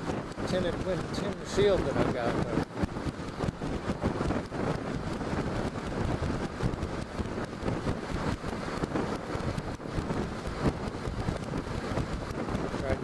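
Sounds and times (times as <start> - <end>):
motorcycle running: 0.0 - 13.0
road noise: 0.0 - 13.0
wind buffeting microphone: 0.0 - 13.0.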